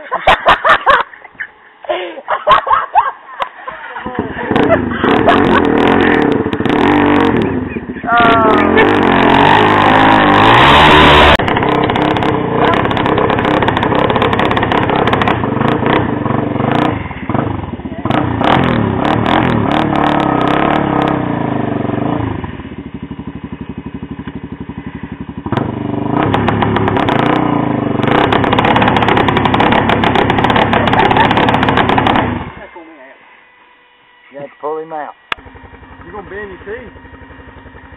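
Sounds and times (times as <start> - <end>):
engine pulsing idle: 3.6 - 37.9
atv engine revving: 3.7 - 32.8, 34.6 - 37.9.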